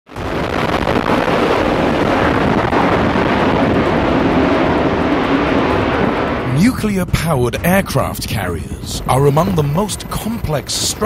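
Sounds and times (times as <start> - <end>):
jet engines roaring: 0.1 - 11.0.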